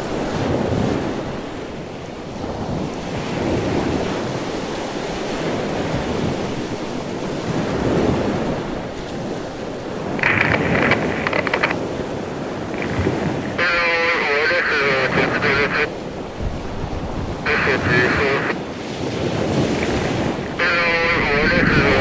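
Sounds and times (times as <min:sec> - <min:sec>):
wind buffeting microphone: 0:00.0 - 0:13.6, 0:15.8 - 0:22.0
small waves washing on beach: 0:00.0 - 0:22.0.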